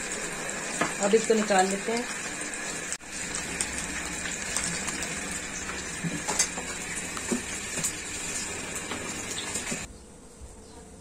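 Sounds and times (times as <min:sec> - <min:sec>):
hot oil sizzling: 0:00.0 - 0:09.9
oil popping and crackling: 0:00.0 - 0:09.9.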